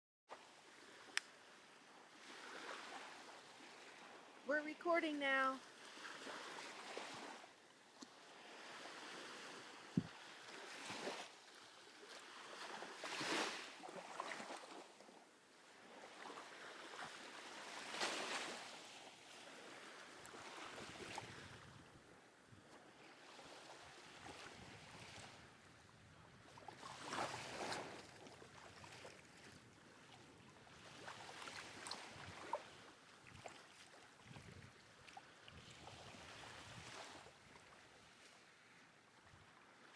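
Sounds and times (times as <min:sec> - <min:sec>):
small waves breaking on beach: 0:00.3 - 0:39.9.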